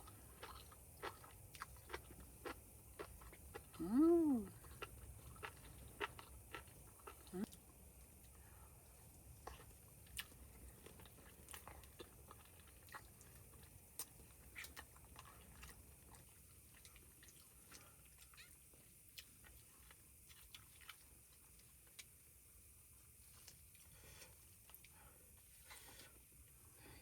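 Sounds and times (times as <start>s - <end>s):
faint chewing: 0.0s - 26.8s.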